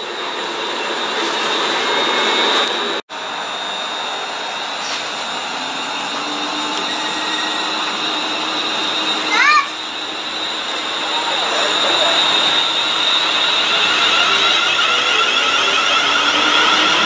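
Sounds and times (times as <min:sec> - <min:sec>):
electric train passing: 0:00.0 - 0:17.0
faint high whine: 0:00.0 - 0:17.0
train wheels rushing on rail: 0:00.0 - 0:17.0.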